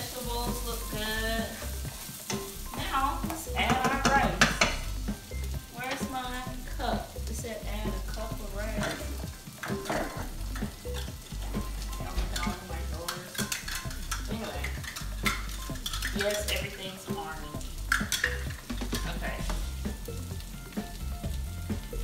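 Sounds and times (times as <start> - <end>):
vegetables sizzling in skillet: 0.0 - 22.0.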